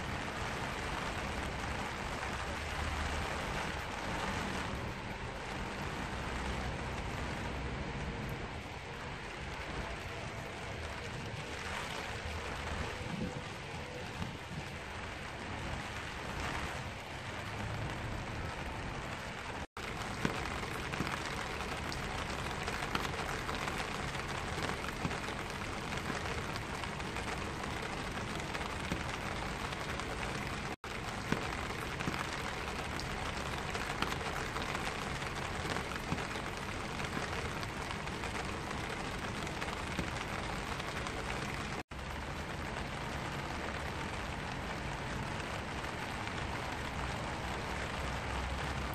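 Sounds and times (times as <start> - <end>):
rain on an umbrella: 0.0 - 48.9.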